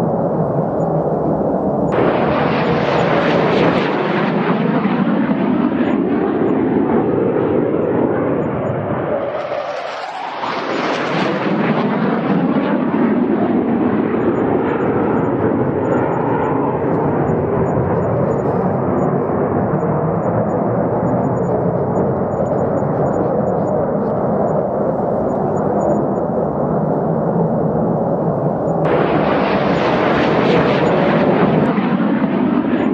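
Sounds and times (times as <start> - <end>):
fighter jet engine roar: 0.0 - 32.9.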